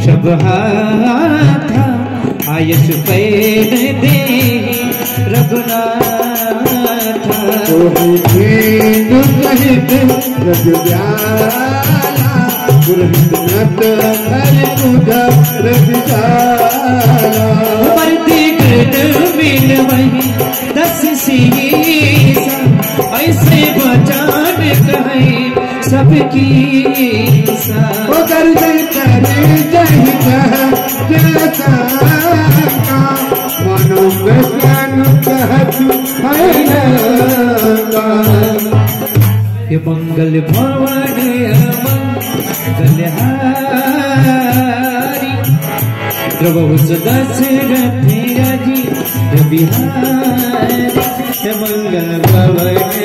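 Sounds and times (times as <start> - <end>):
harmonium melody: 0.0 - 53.0
hand drum beat: 1.4 - 39.4, 40.6 - 53.0.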